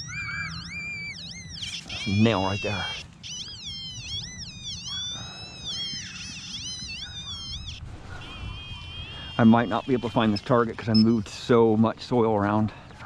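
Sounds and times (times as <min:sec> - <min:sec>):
metal detector warbling tone: 0:00.0 - 0:11.3.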